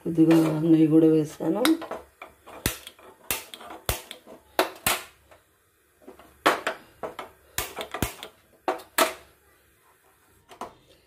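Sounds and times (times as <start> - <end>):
hot oil crackling and popping: 0.0 - 11.0.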